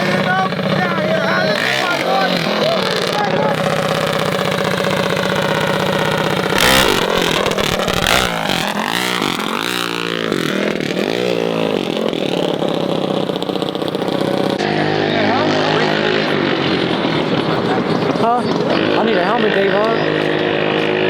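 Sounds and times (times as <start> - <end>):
mini bike engine revving: 0.0 - 21.0.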